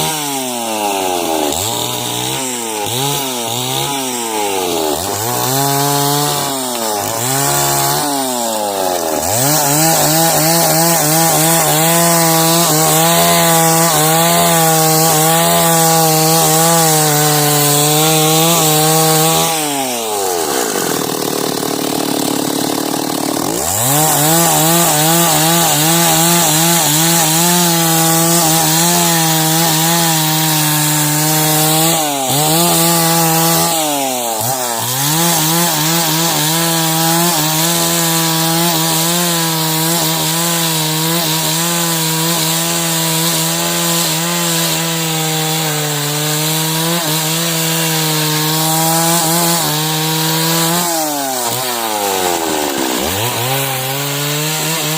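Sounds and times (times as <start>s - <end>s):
chainsaw ripping timber: 0.0s - 54.9s.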